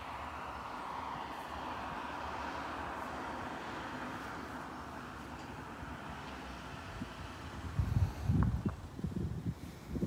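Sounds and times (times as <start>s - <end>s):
distant vehicles rushing: 0.0s - 9.9s.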